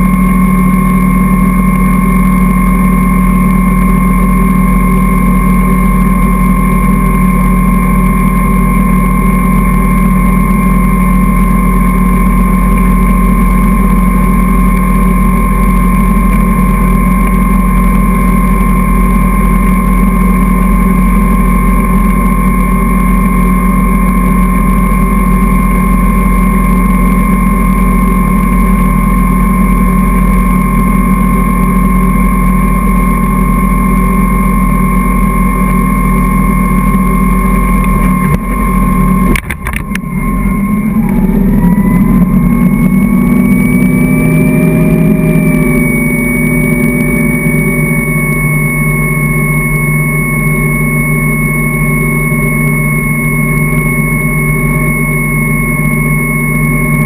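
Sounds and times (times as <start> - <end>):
motorboat engine drone: 0.0 - 57.0
thin steady whine: 0.0 - 57.0.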